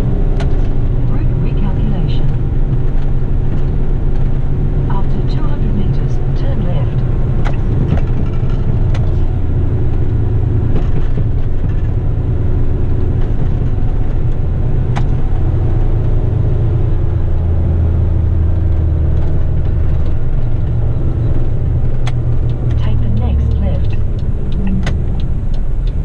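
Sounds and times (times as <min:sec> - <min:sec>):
truck diesel engine rumble: 0:00.0 - 0:26.0.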